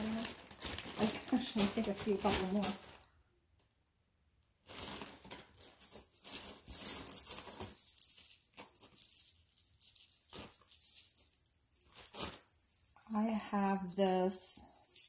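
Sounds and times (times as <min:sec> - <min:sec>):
plastic bags rustling: 0:00.0 - 0:03.1, 0:04.6 - 0:15.0.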